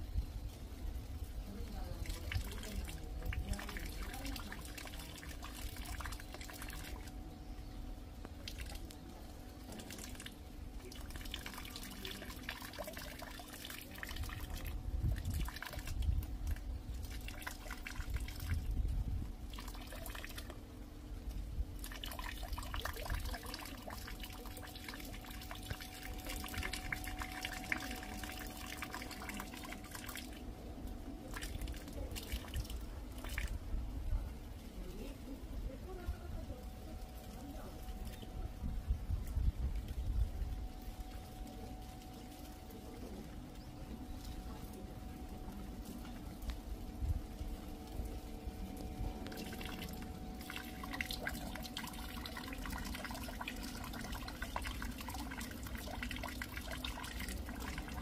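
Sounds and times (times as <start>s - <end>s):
faint steady hum: 0.0s - 58.0s
rain dripping: 0.0s - 58.0s
rainwater trickling: 0.0s - 58.0s.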